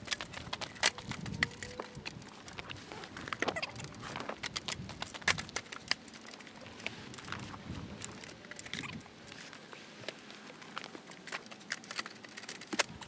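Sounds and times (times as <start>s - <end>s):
fabric clicking and rustling in a track: 0.0s - 13.0s.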